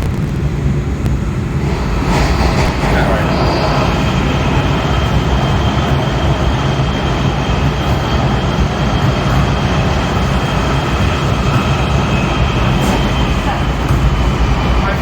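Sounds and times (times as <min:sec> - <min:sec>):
faint whine: 0:00.0 - 0:15.0
wheels rumbling on rail: 0:00.0 - 0:15.0.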